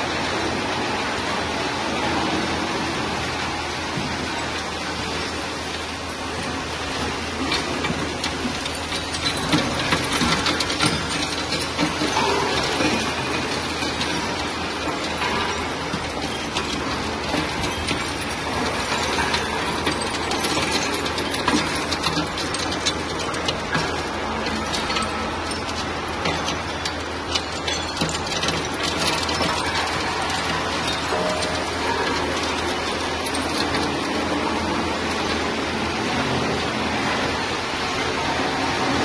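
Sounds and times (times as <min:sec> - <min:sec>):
metal rattling on conveyor belts: 0:00.0 - 0:39.0.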